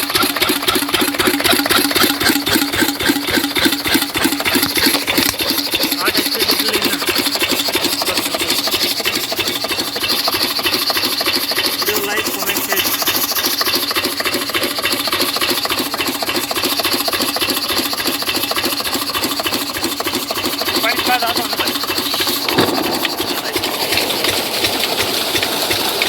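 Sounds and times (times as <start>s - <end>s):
diesel engine knocking: 0.0s - 26.0s.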